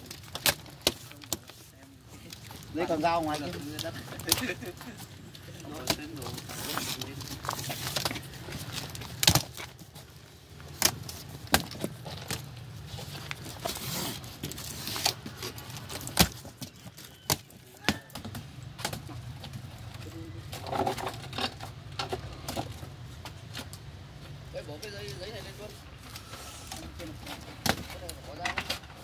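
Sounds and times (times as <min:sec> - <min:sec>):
rustling and scraping: 0:00.0 - 0:29.0.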